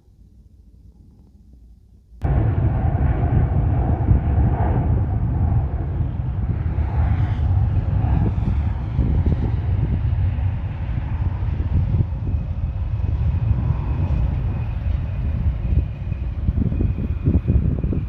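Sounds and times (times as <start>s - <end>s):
jet engines roaring with hiss: 2.2s - 18.0s.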